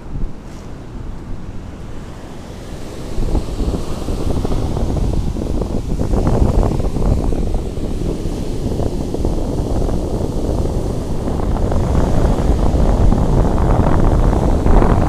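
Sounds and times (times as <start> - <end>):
surf washing in: 0.0 - 15.0
wind buffeting microphone: 0.0 - 15.0.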